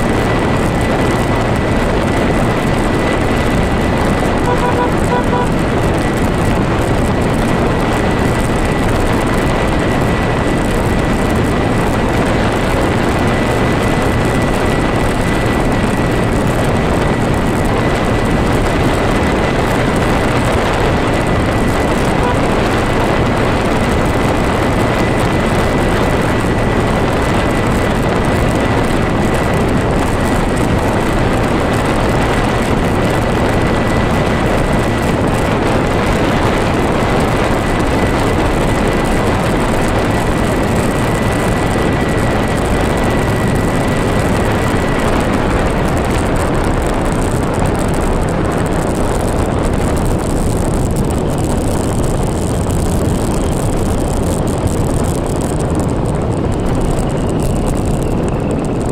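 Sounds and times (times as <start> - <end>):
high steady whine: 0.0 - 58.9
road and wind noise from vehicle: 0.0 - 58.9.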